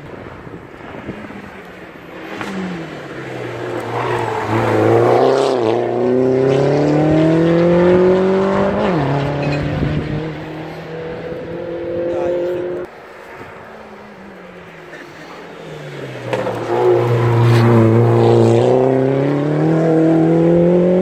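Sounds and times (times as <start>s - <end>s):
race car engine revving: 2.1s - 12.9s, 14.6s - 21.0s.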